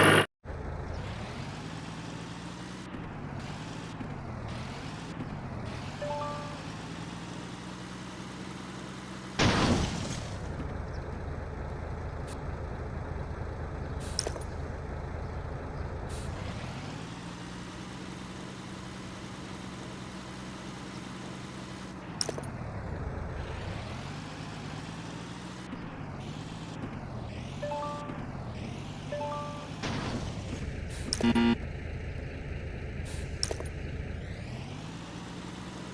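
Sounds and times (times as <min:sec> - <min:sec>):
vehicle engine running: 0:00.0 - 0:09.4, 0:10.1 - 0:35.9.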